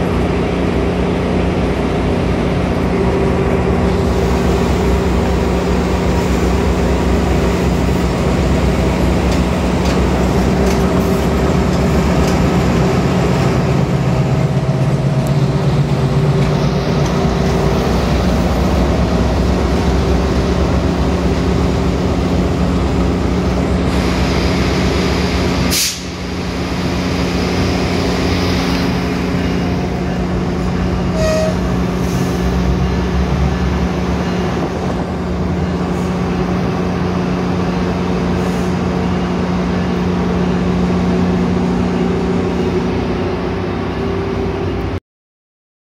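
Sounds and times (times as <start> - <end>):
diesel locomotive engine droning: 0.0 - 45.0.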